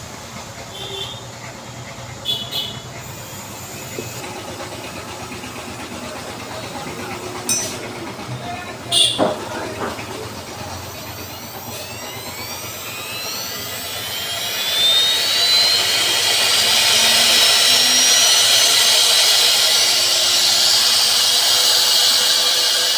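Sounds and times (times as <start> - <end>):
router spindle high whine: 0.0 - 22.9.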